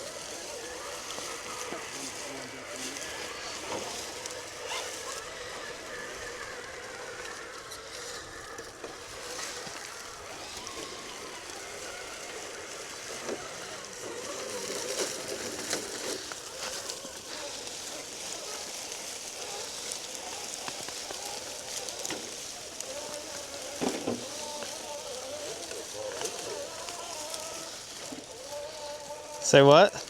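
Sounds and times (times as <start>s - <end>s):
clicks and crunches: 0.0s - 30.0s
rc truck motors whining: 0.0s - 30.0s.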